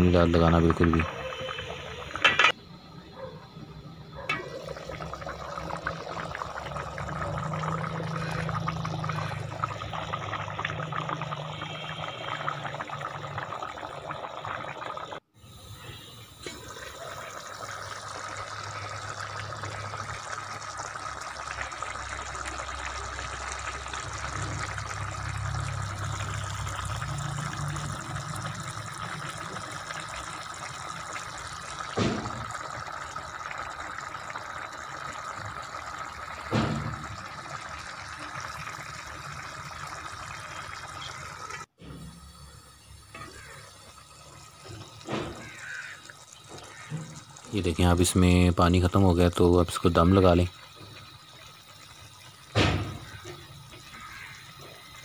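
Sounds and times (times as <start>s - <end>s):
rice boiling in a pot: 0.0s - 55.0s.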